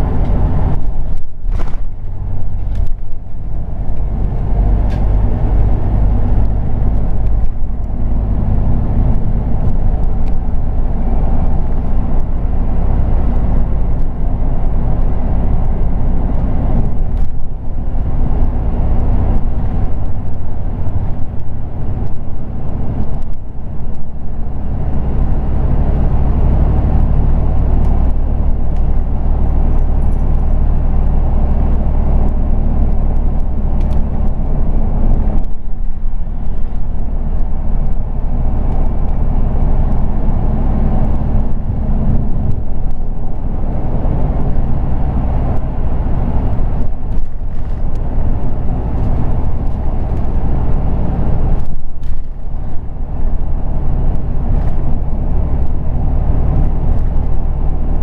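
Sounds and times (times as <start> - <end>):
bus engine drone: 0.0 - 58.0
tyre and road noise: 0.0 - 58.0.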